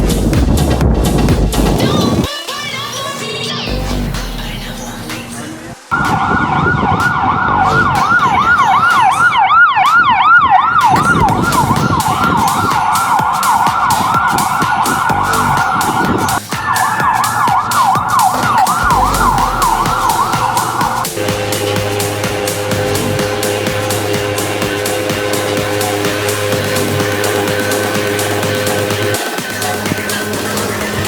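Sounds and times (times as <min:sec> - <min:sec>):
electronic siren yelping: 0:05.9 - 0:31.0.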